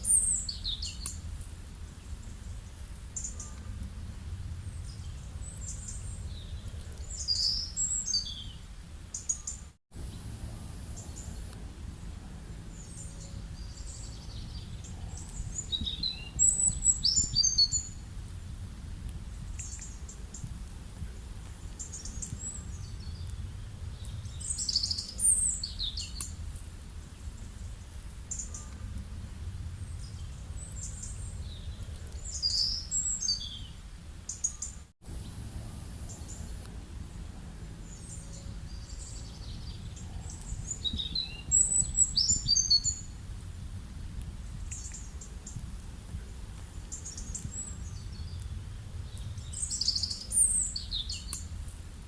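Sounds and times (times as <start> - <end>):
low background rumble: 0.0 - 9.2, 10.0 - 34.4, 35.0 - 52.0
small birds chirping: 0.0 - 51.8.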